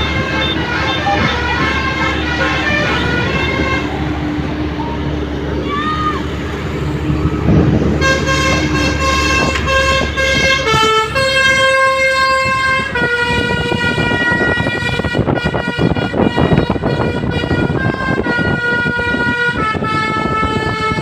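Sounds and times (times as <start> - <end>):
multi-tone bus horn tune: 0.0 - 5.5, 6.2 - 21.0
bus engine noise: 0.0 - 21.0.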